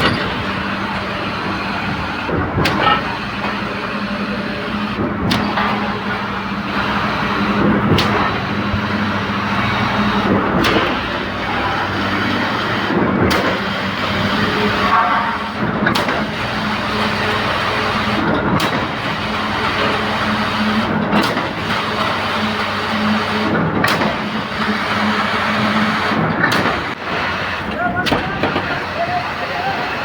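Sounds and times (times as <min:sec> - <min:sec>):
concrete pump engine hum: 0:00.0 - 0:30.0.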